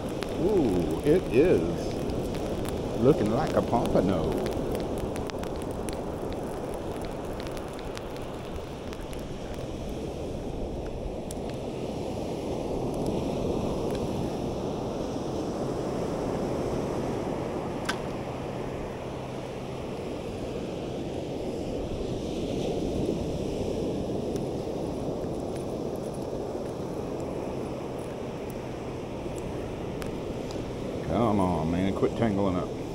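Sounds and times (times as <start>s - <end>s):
ocean surf washing up: 0.0s - 32.9s.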